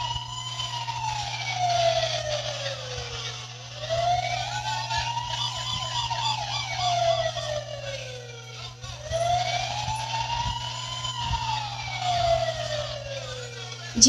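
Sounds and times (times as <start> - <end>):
fast warbling siren tone: 0.0 - 14.0
toy siren wailing: 0.0 - 14.0.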